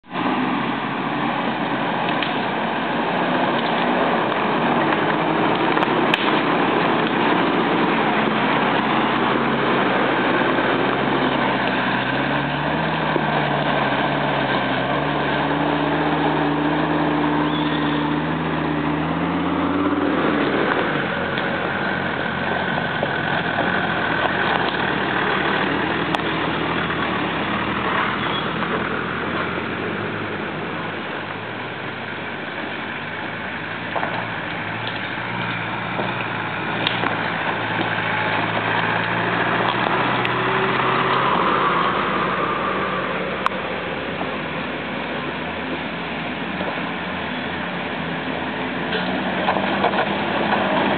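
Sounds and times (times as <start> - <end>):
off-road vehicle engines running: 0.0 - 50.9.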